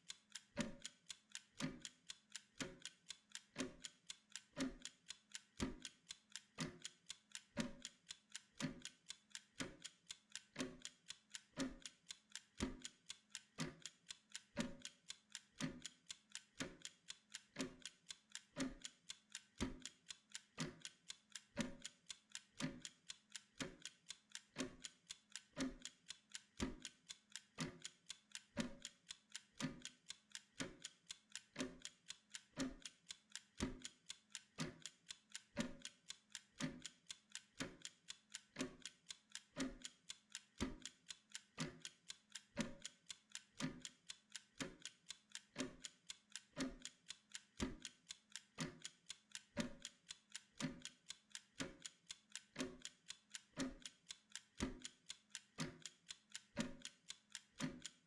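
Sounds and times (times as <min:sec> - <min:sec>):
mechanical timer ticking: 0:00.0 - 0:58.0.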